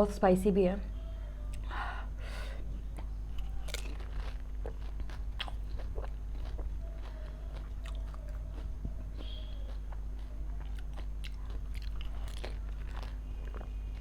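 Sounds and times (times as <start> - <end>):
crunching and chewing food: 2.5 - 14.0.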